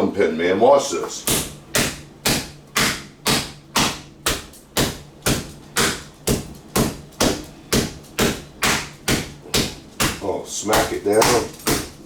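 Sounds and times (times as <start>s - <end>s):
rolling pin smacking meat: 1.1s - 12.0s.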